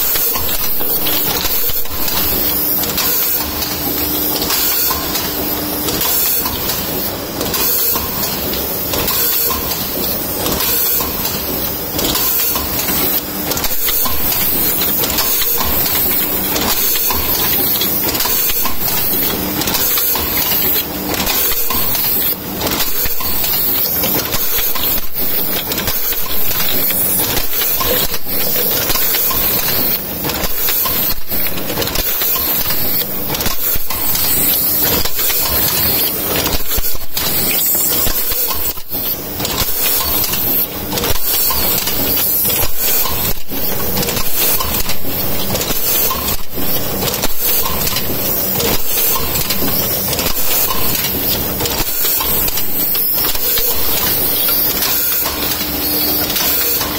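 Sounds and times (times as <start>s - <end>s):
filling machine clatter: 0.0s - 56.9s.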